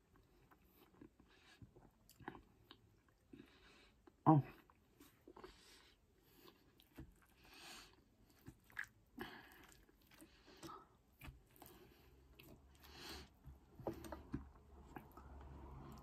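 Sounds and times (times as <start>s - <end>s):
chewing soft food: 0.0s - 16.0s.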